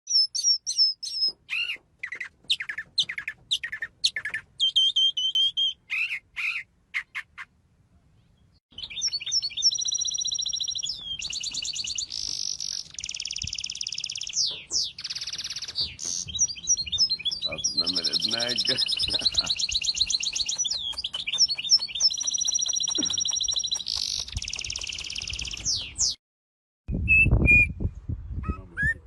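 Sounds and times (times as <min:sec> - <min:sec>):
songbird singing: 0:00.1 - 0:26.2.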